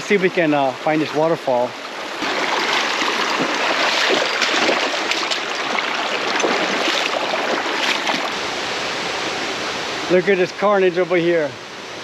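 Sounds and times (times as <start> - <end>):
stream rushing over rocks: 0.0 - 11.3.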